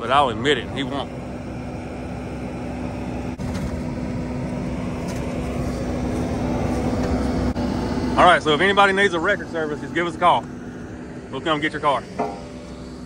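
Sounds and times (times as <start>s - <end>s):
constant low hum: 0.0s - 13.0s
diesel engine under load: 0.0s - 13.0s.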